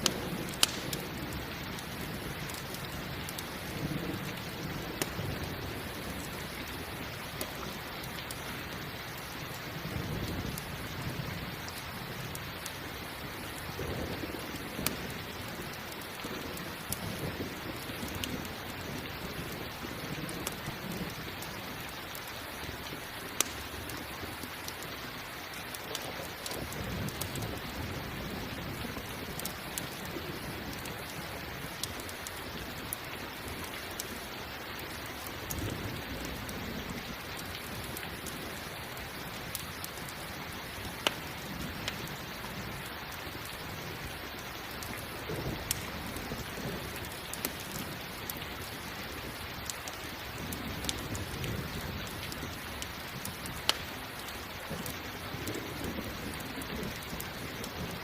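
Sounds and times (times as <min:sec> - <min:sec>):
campfire crackling and popping: 0:00.0 - 0:58.0
steady rain: 0:00.0 - 0:58.0.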